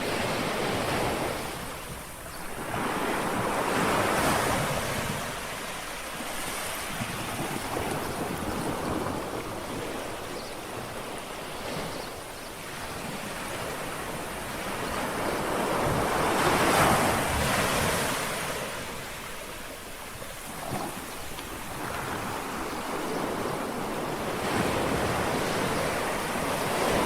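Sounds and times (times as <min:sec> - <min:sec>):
small waves lapping on shore: 0:00.0 - 0:27.0.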